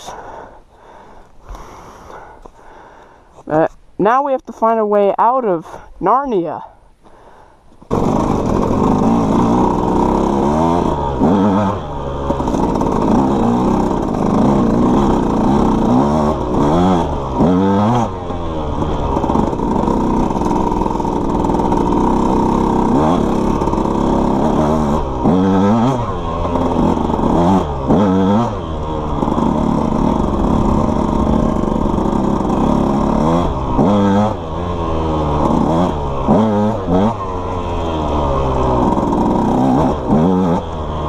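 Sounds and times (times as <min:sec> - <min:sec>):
dirt bike engine revving: 0:07.9 - 0:41.0.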